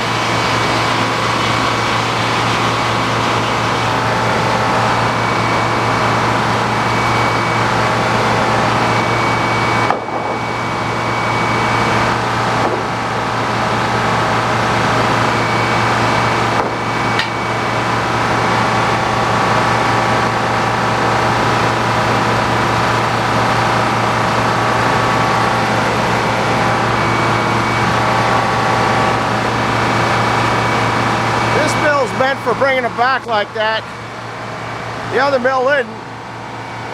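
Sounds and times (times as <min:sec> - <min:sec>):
sawmill engine drone: 0:00.0 - 0:36.9.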